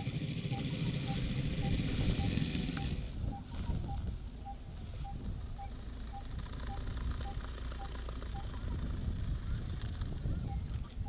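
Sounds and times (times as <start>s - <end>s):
faint high bird chirps: 0.0s - 11.0s.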